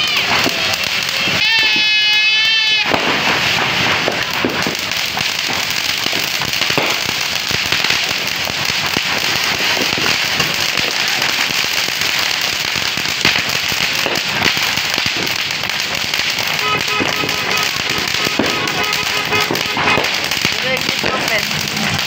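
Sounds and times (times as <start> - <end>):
firework fountains hissing crackle: 0.0 - 22.0
sharp firework pops: 2.8 - 22.0.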